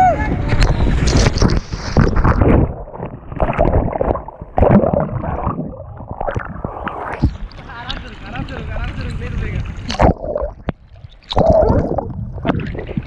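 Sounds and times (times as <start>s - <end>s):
muffled water splashing and gurgling: 0.0s - 13.0s.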